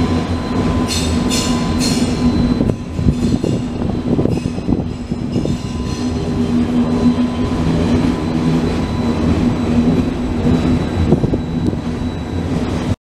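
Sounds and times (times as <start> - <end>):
steady hum: 0.0 - 13.0
train wheels rumbling on rails: 0.0 - 13.0.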